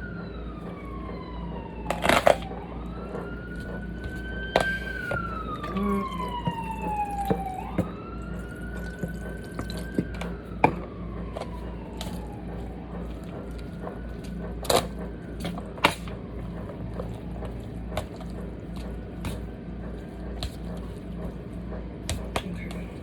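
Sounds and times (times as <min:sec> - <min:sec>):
siren wailing: 0:00.0 - 0:19.2
spoon stirring food in a pan: 0:01.9 - 0:23.0.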